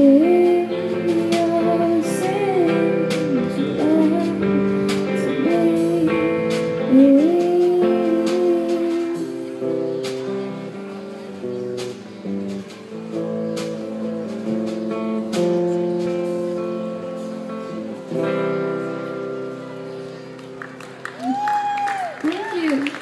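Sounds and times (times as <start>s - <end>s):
acoustic guitar strumming chords: 0.0s - 20.6s.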